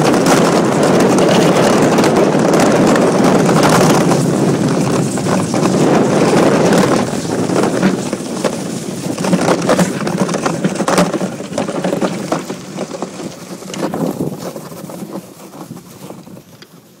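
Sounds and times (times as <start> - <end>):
steel runners scraping over ice: 0.0 - 17.0
wind buffeting the microphone: 0.0 - 17.0.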